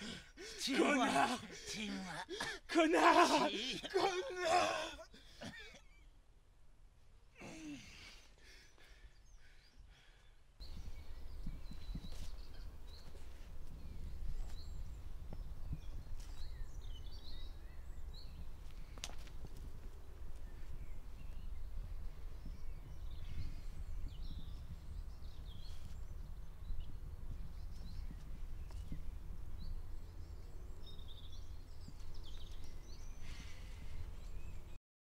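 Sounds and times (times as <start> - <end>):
birds chirping: 0.0 - 6.2, 7.3 - 34.8.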